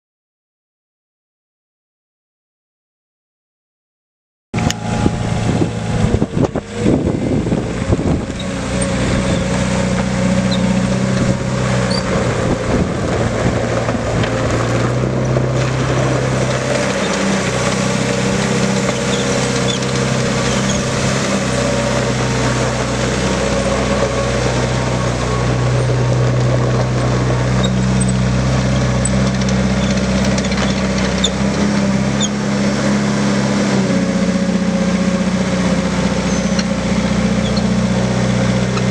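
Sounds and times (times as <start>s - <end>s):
diesel engine running: 4.6s - 38.9s.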